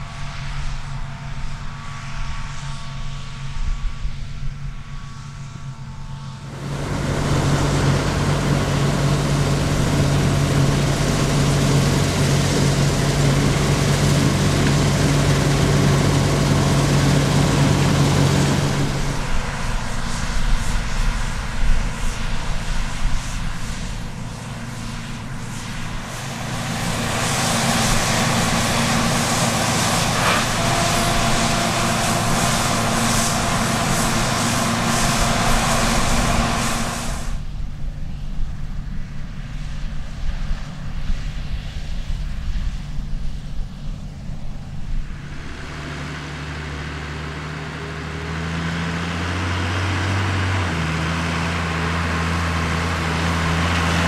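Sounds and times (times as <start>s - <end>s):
diesel engines running under load: 0.0s - 54.0s.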